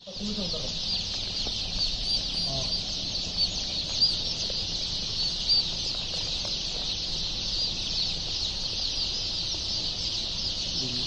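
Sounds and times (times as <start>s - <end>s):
turkey poults peeping: 0.0s - 11.0s.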